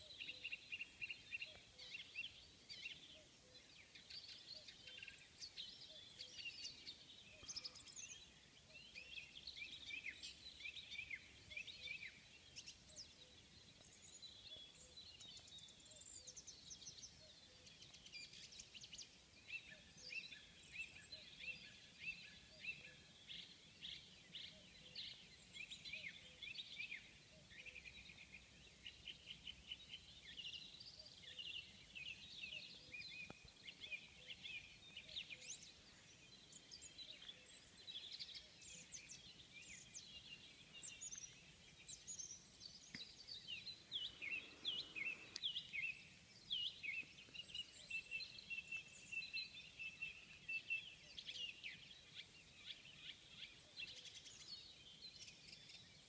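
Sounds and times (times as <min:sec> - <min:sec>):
birds chirping and singing: 0:00.0 - 0:56.0.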